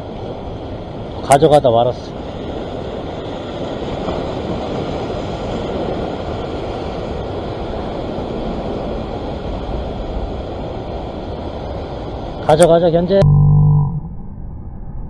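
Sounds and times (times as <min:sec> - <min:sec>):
ocean surf washing over rocks: 0:00.0 - 0:13.1
wind rumbling on microphone: 0:00.0 - 0:15.0.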